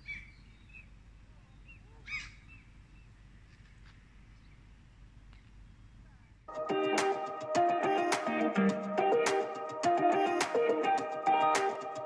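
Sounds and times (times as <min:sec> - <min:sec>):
steady low background noise: 0:00.0 - 0:12.0.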